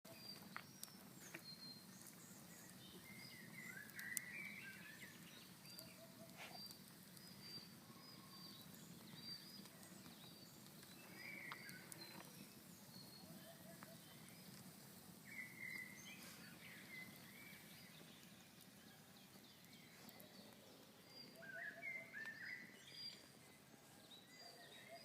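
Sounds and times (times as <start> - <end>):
bird chirping: 0.1 - 25.0
low background hiss: 0.2 - 25.0.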